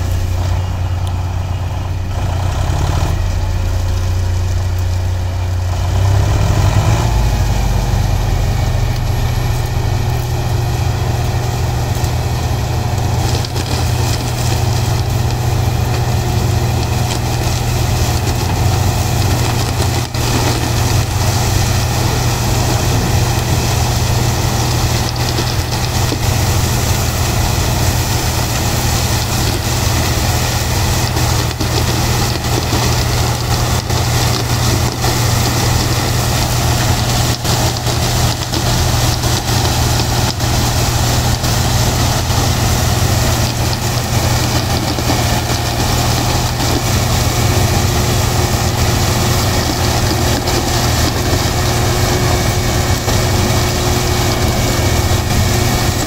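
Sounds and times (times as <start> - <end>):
diesel engines under load: 0.0 - 56.0.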